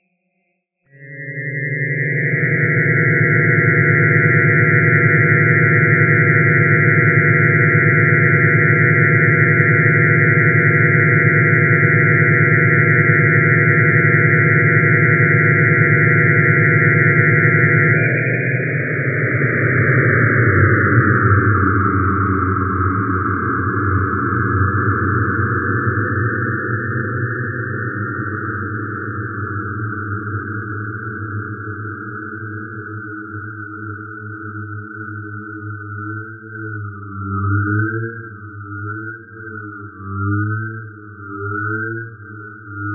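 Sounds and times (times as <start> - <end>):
synthesizer drone chord: 0.9 - 38.8.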